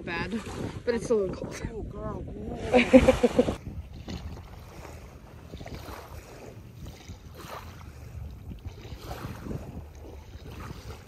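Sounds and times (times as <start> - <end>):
small waves lapping: 0.0 - 11.0
wind on microphone: 0.0 - 11.0.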